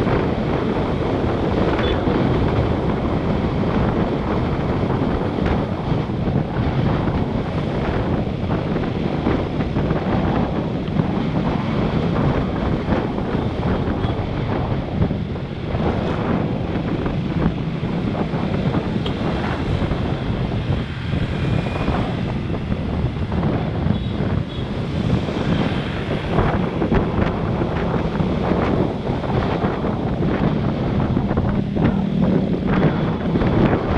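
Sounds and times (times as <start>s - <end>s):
road noise: 0.0s - 33.9s
wind buffeting microphone: 0.0s - 33.9s.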